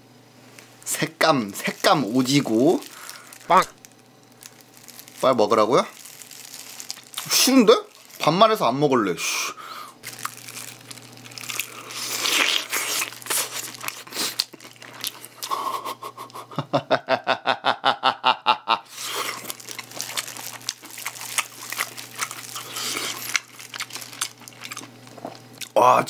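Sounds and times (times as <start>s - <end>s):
plastic gloves crinkling: 0.6s - 15.4s, 18.9s - 25.5s
crunching and chewing chicken: 0.9s - 8.6s, 9.4s - 16.5s, 18.9s - 25.8s.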